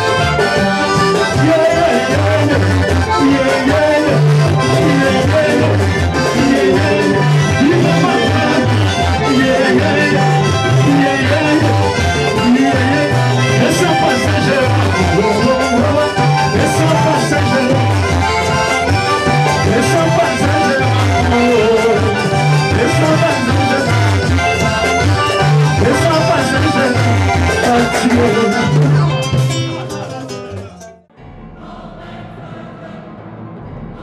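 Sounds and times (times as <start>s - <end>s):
man singing: 0.0s - 30.9s
guitars: 0.0s - 31.2s
drums: 0.0s - 34.0s
repeating bass line: 0.0s - 34.0s.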